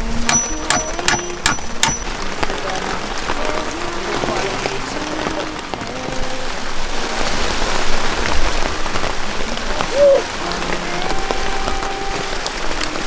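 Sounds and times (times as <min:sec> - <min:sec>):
steady rain falling: 0:00.0 - 0:13.0
water dripping from roof: 0:00.0 - 0:13.0.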